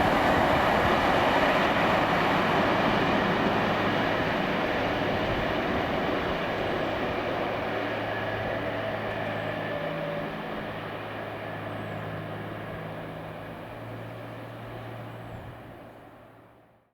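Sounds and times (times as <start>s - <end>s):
train passing: 0.0s - 16.5s.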